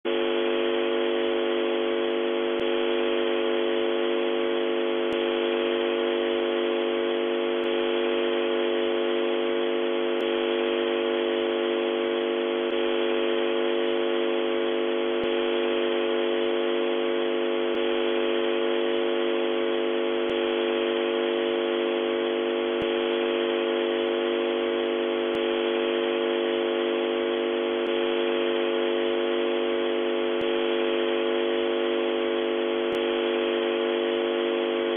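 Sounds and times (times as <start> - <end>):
radio static hiss: 0.1 - 34.9.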